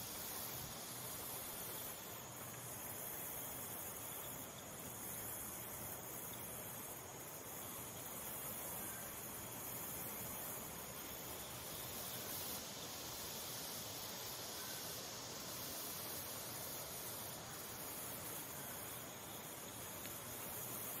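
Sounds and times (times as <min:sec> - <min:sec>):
high-pitched insect chorus: 0:00.0 - 0:21.0
soft hiss: 0:00.0 - 0:21.0.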